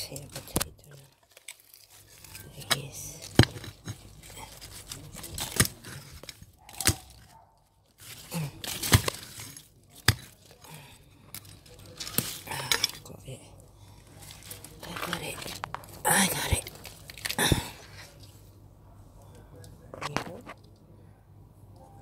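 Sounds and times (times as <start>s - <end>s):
digging in soil: 0.0s - 18.2s.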